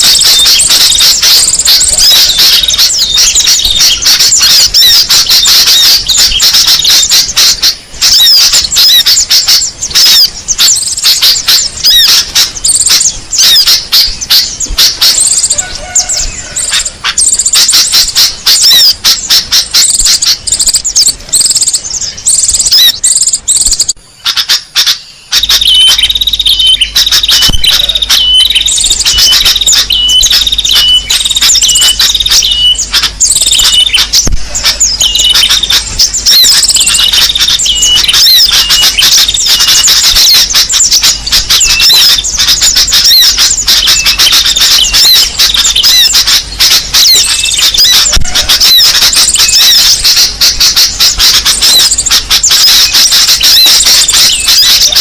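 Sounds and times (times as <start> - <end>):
repeated short bird call: 0.0 - 55.0
songbirds chirping and twittering: 0.0 - 55.0.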